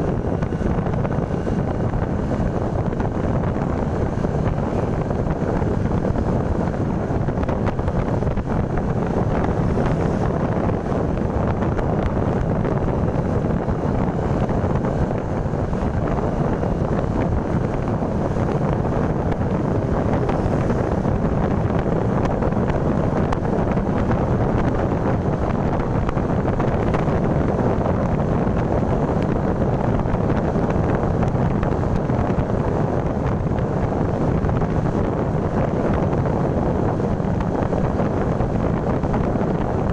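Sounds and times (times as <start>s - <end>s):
moving vehicle running: 0.0s - 39.9s
wind noise on microphone: 0.0s - 39.9s.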